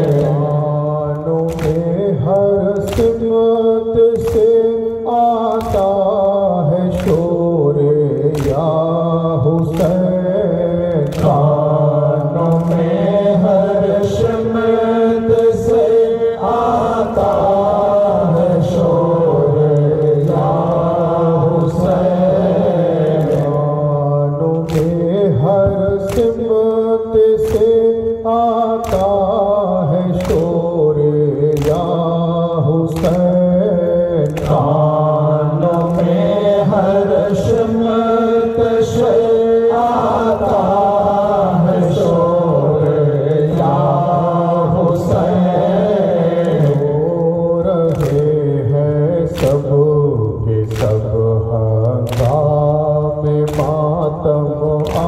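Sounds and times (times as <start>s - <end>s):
chest slaps in unison: 0.0s - 26.6s, 27.2s - 30.8s, 31.4s - 38.0s, 38.6s - 55.0s
group of men chanting: 0.0s - 55.0s
man singing lament over microphone: 0.0s - 55.0s.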